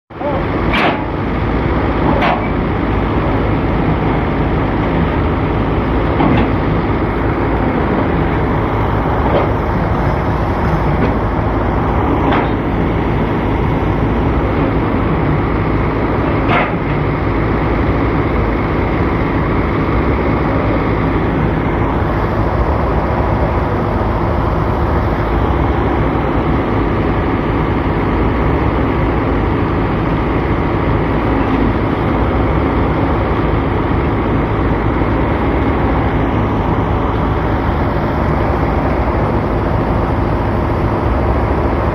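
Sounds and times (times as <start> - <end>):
excavator engine running: 0.1 - 41.9.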